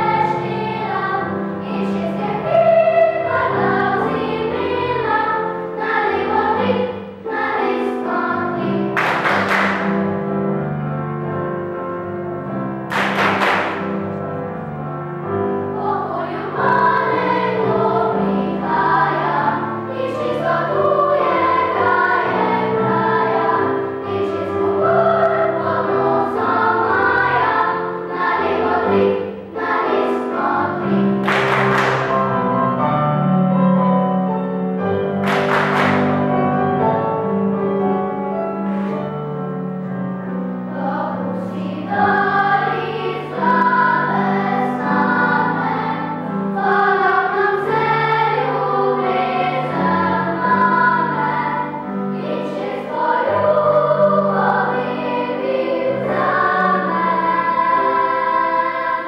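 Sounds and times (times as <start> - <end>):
children's choir singing: 0.0 - 10.5, 11.3 - 33.3, 34.9 - 39.1, 39.8 - 59.0
piano accompaniment: 0.0 - 59.0.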